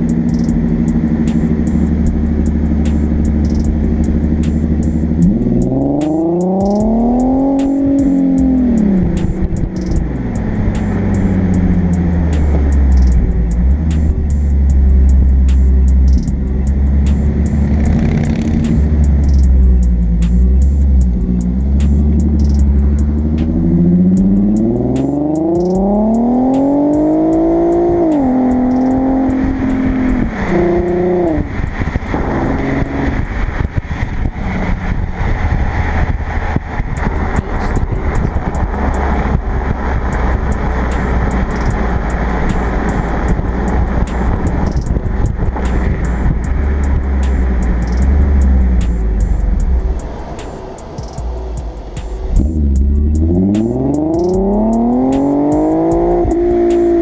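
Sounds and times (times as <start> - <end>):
car exhaust accelerating: 0.0 - 57.0.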